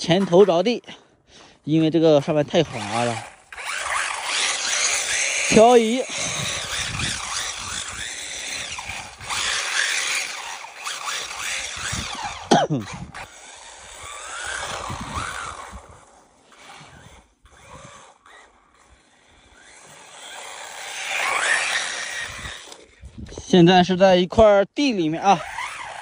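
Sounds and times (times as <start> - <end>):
small electric motor whining: 0.0 - 23.9, 25.2 - 26.0.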